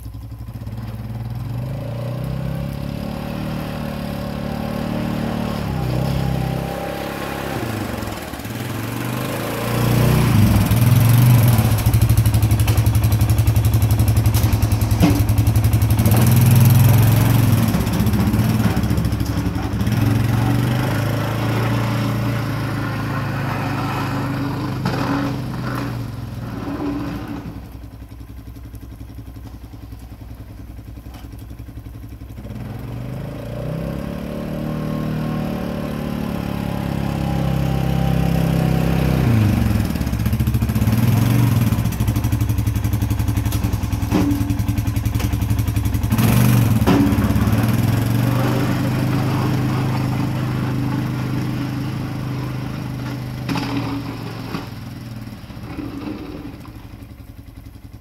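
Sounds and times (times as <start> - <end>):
atv engine revving: 0.4 - 28.0, 32.1 - 57.7.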